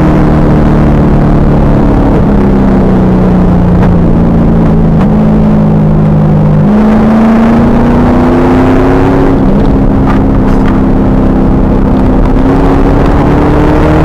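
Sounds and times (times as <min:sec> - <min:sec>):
car engine under hard load: 0:00.0 - 0:14.0
road noise: 0:00.0 - 0:14.0
wind noise: 0:00.0 - 0:14.0.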